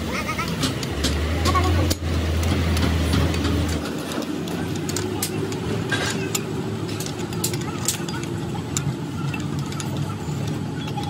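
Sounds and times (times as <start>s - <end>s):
low engine-like rumble: 0.0s - 11.0s
sharp clicks and taps: 0.4s - 11.0s.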